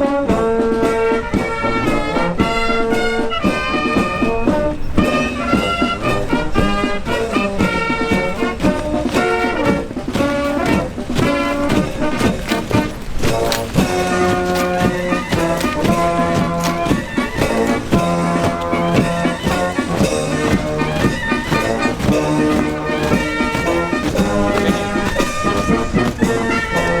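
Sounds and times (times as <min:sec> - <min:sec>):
brass band playing a march: 0:00.0 - 0:27.0
steady drum beat: 0:03.0 - 0:27.0.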